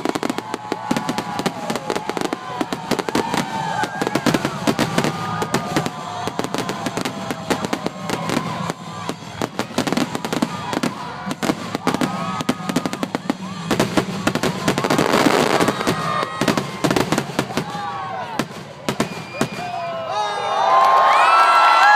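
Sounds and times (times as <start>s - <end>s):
fireworks bangs and crackles: 0.0s - 19.9s
fireworks whistling: 0.0s - 20.1s.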